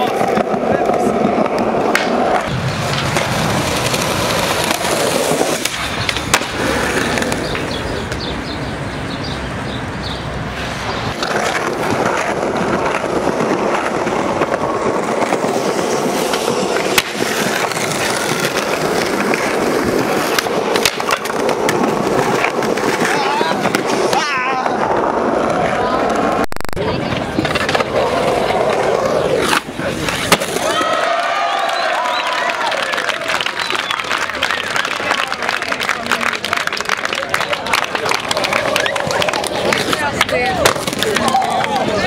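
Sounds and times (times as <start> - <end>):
skateboard clacks: 0.0 - 8.8, 10.3 - 42.0
skateboard wheels rolling on pavement: 0.0 - 42.0.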